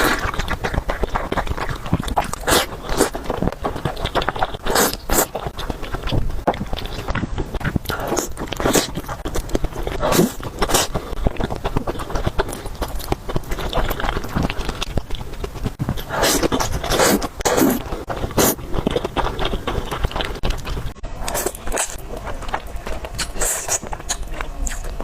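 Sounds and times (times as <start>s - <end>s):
wet chewing and biting: 0.0s - 25.0s.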